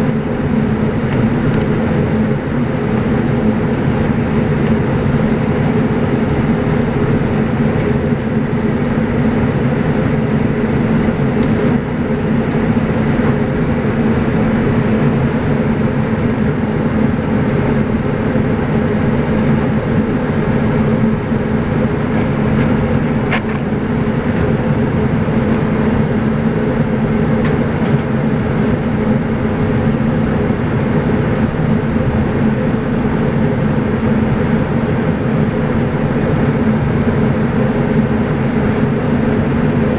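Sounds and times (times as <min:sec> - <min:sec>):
airflow noise: 0:00.0 - 0:39.9
turboprop engines droning: 0:00.0 - 0:39.9.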